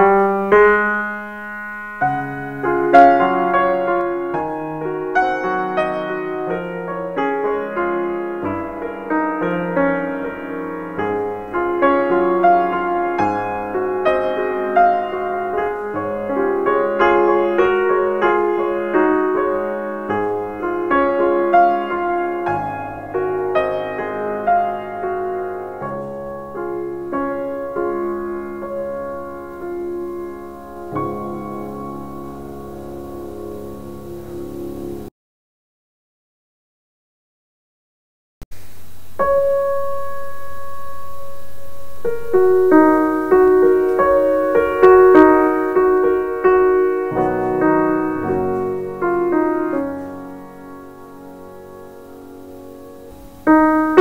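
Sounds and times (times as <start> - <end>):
solo piano music: 0.0 - 35.1, 38.5 - 54.0.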